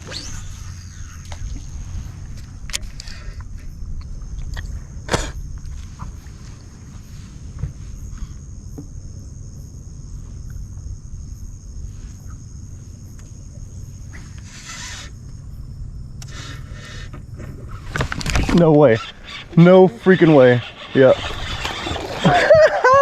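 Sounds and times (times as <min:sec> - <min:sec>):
low steady rumble: 0:00.0 - 0:22.6
insects droning: 0:00.0 - 0:23.0.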